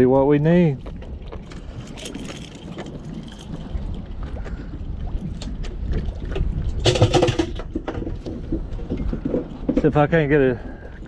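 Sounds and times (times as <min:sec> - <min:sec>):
water against boat: 0:00.0 - 0:11.0
wind on microphone: 0:00.0 - 0:11.0.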